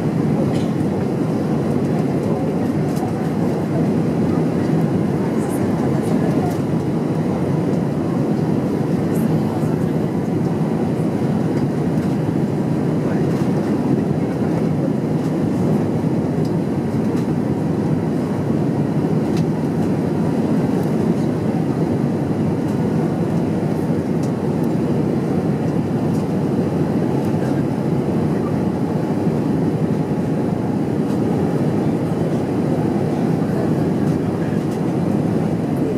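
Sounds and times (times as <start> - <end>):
airliner cabin rumble: 0.0 - 35.9.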